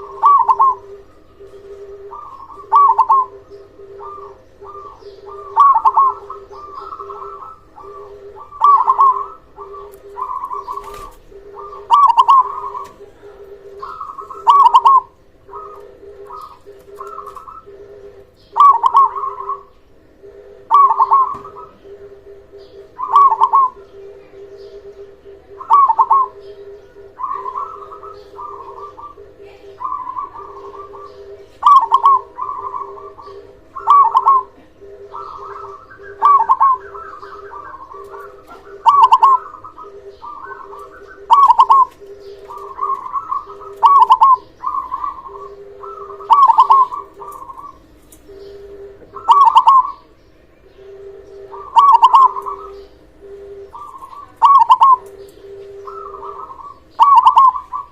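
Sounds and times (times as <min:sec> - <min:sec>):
doves cooing: 0:00.0 - 0:57.9.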